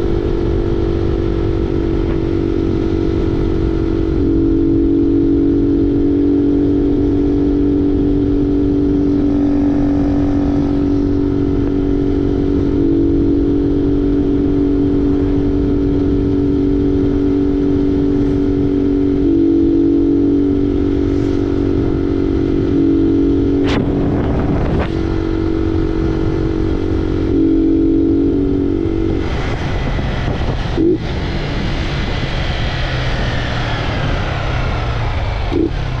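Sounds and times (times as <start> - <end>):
motorcycle engine running: 0.0 - 36.0
road noise: 0.0 - 36.0
wind noise on microphone: 0.0 - 36.0.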